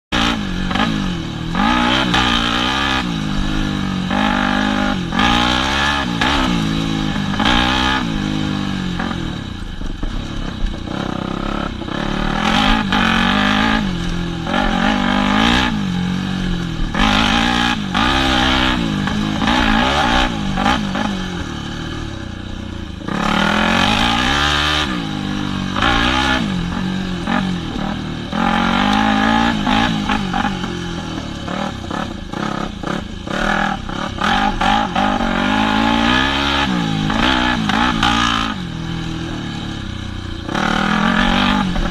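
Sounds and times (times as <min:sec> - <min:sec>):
dirt bike engine revving: 0:00.1 - 0:41.9.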